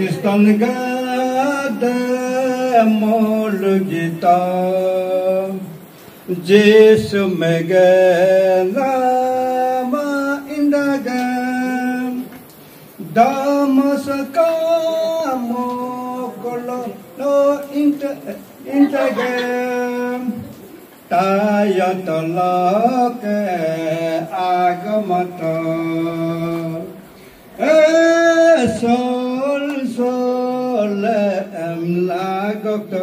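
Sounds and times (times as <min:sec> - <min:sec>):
man singing gospel unaccompanied: 0:00.0 - 0:33.0.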